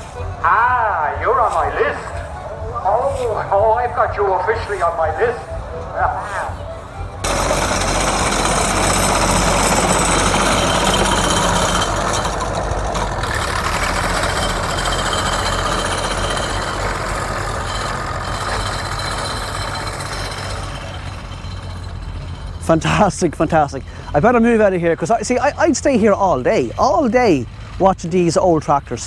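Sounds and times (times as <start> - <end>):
tractor engine clattering: 0.0 - 29.0.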